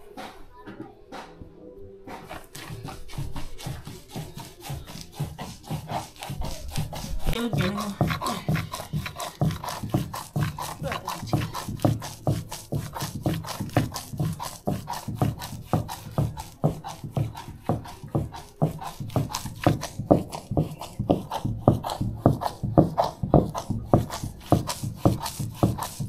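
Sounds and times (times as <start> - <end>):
grinding stone scraping: 2.3 - 26.0.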